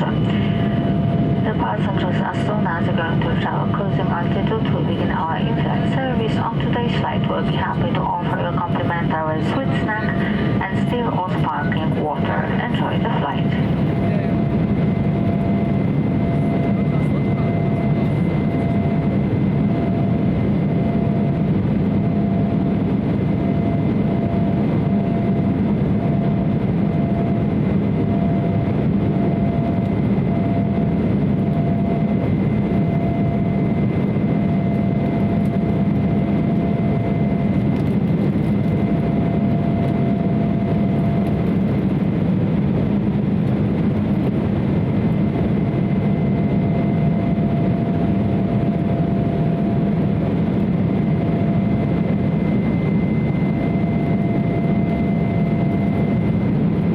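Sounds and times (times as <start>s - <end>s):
faint steady whine: 0.0s - 56.9s
jet engine drone: 0.0s - 56.9s.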